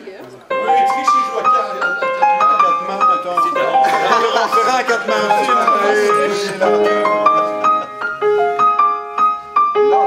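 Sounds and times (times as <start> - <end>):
voices chattering: 0.0 - 8.6
grand piano melody: 0.0 - 10.0.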